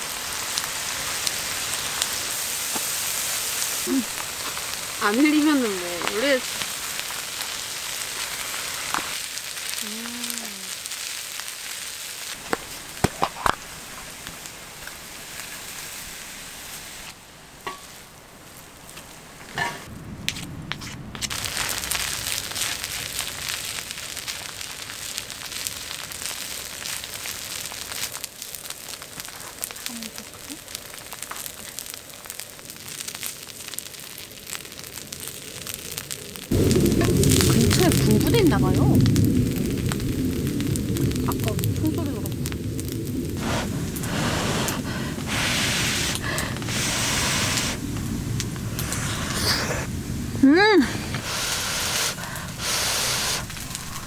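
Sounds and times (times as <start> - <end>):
rice sizzling in hot pan: 0.0 - 54.0.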